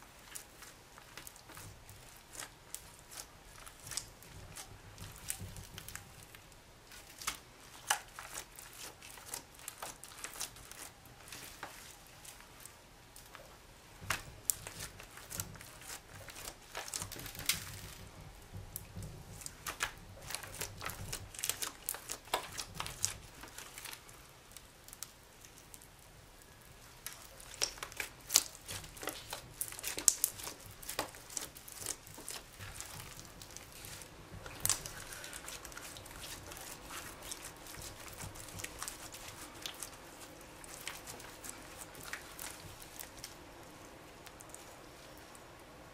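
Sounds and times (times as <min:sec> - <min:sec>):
slime squelching: 0:00.0 - 0:45.9.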